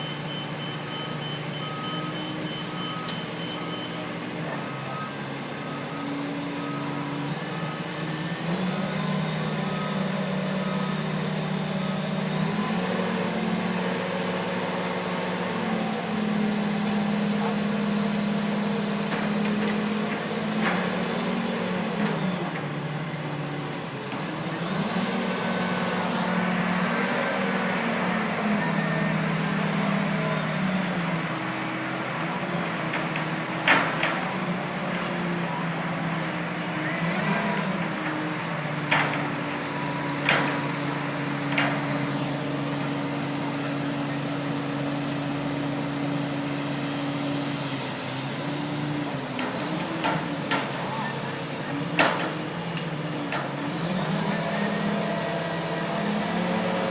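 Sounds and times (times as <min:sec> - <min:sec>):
crane engine running: 0:00.0 - 0:56.9.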